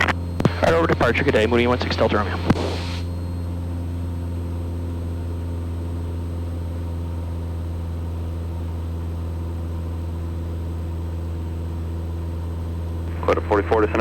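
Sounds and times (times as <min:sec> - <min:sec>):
aircraft engine droning in cabin: 0:00.0 - 0:14.0.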